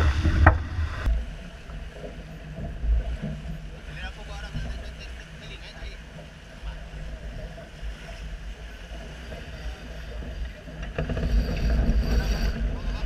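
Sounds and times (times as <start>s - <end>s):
wind buffeting microphone: 0.0s - 1.4s, 2.3s - 13.0s
water rushing along hull: 0.0s - 13.0s.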